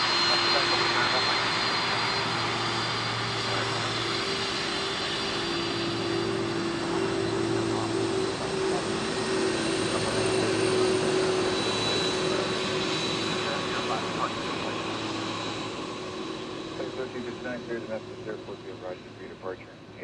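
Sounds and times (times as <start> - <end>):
faint high whine: 0.0 - 20.0
jet engines roaring: 0.0 - 20.0.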